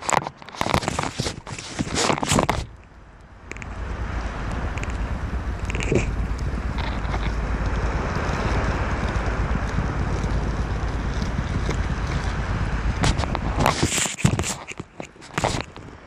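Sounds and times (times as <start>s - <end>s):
sharp clicks and crackles: 0.0s - 16.0s
muffled underwater water rushing: 1.1s - 16.0s.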